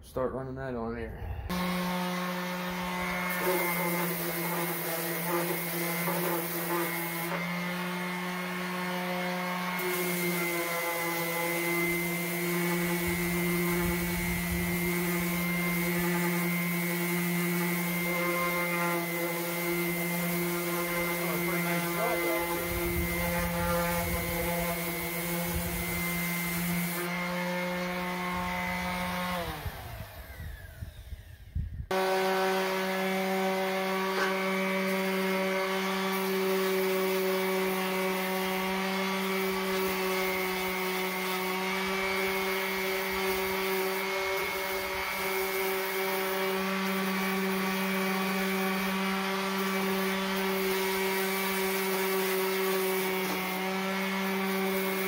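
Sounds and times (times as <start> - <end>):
electric sander running on metal: 1.5 - 55.0.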